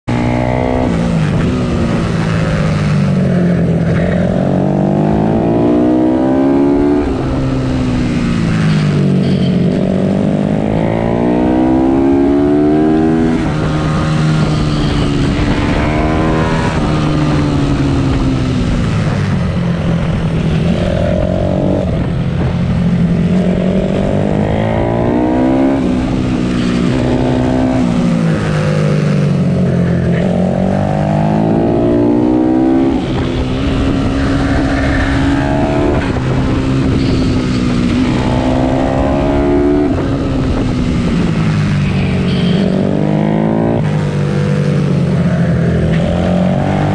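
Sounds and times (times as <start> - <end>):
motorcycle engine revving hard: 0.0 - 46.9.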